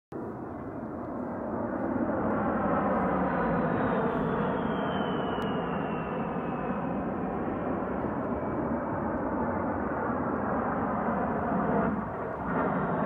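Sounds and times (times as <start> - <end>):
jet engine roar: 0.1 - 13.0
high falling jet whine: 0.2 - 13.0.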